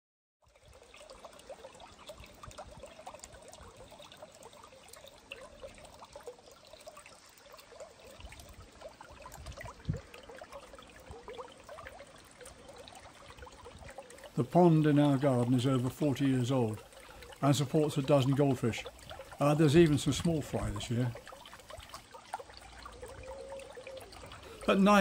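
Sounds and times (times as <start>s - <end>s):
water trickling into pond: 0.4s - 25.0s.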